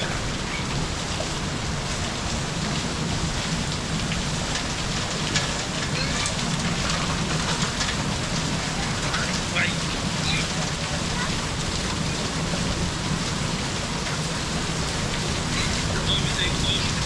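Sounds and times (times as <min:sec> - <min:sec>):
heavy rain falling: 0:00.0 - 0:17.0
raindrops tapping surfaces: 0:00.0 - 0:17.0.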